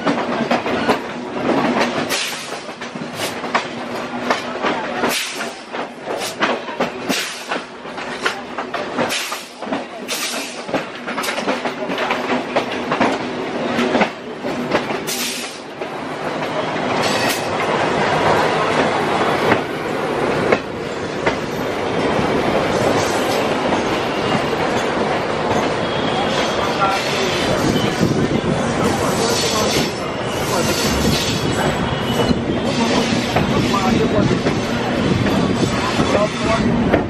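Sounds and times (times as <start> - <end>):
train rolling rumble: 0.0 - 37.0
train wheels clattering over joints: 0.0 - 37.0.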